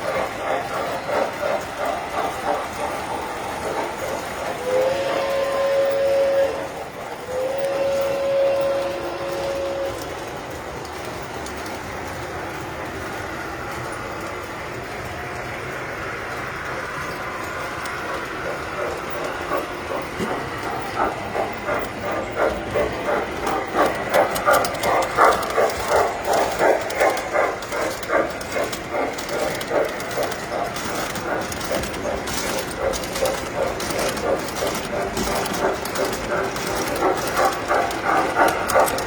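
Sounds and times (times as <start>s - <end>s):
model train running: 0.0s - 39.0s.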